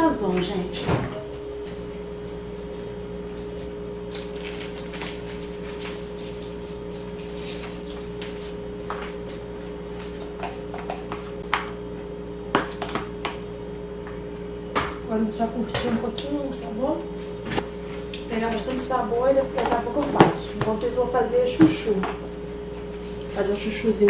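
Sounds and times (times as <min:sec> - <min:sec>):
low kitchen hum: 0:00.0 - 0:24.0.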